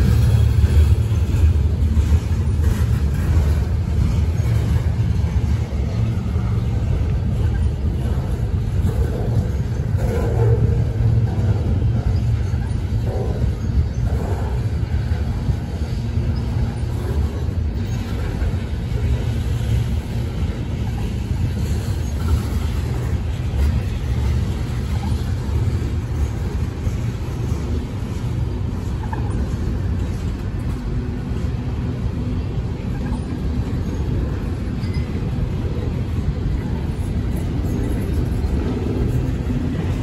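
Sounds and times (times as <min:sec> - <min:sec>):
steel wheels rumbling on rails: 0:00.0 - 0:40.0.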